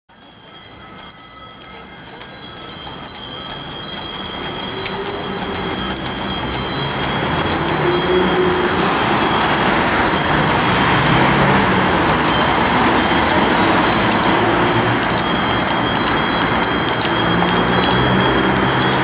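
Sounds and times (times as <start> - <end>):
harness jingling: 0.1 - 19.0
traffic: 0.1 - 19.0
wagon wheels rumbling: 0.1 - 19.0.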